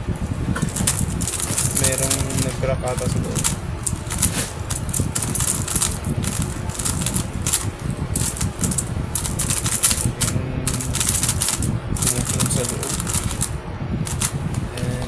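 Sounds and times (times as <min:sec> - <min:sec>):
puzzle cube clicking: 0:00.7 - 0:13.5, 0:14.1 - 0:14.3.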